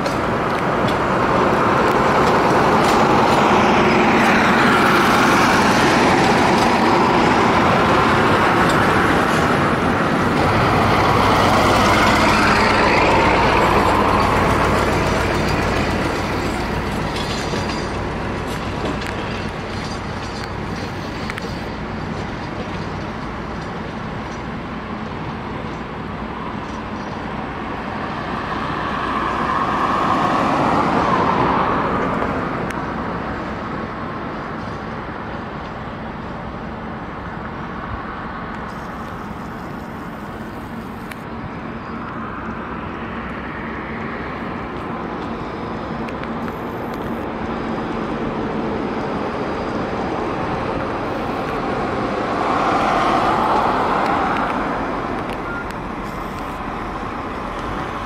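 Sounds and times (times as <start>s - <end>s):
tram running on rails: 0.0s - 58.0s.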